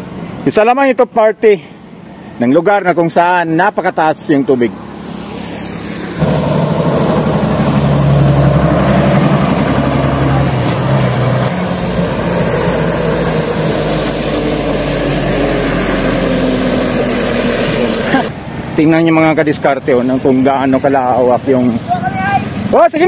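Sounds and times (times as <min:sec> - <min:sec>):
truck engine running: 0:00.0 - 0:23.0
tyres on wet road: 0:00.0 - 0:23.0.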